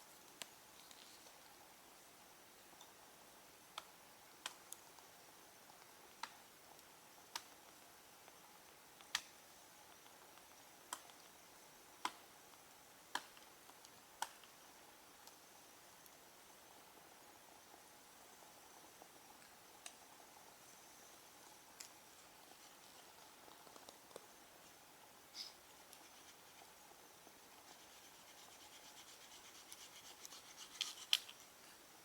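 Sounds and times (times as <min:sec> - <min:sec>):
wood fire crackling: 0:02.5 - 0:32.0.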